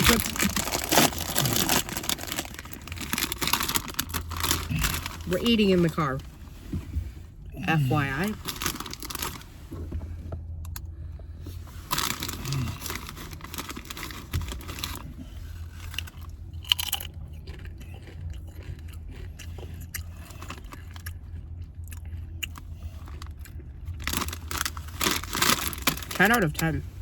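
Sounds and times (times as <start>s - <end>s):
chips crunching and chewing: 0.0s - 6.2s, 7.8s - 9.5s, 11.7s - 26.8s
low car hum: 0.0s - 27.0s.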